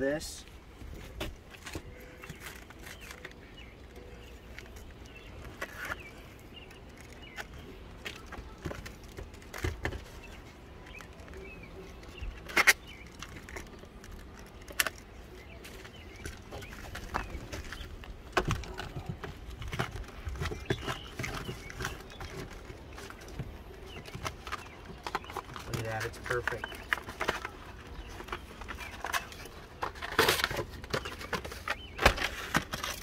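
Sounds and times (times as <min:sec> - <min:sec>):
tape backing crackling as peeled: 0:01.5 - 0:33.0.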